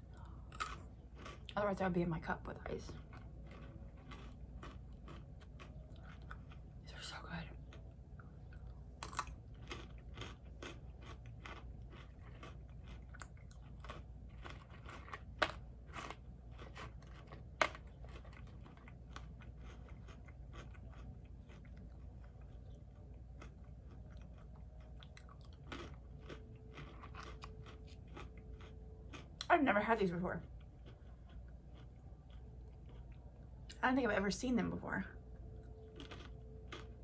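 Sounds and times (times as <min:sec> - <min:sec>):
chewing crunchy pretzels: 0:00.0 - 0:33.8, 0:35.5 - 0:37.0.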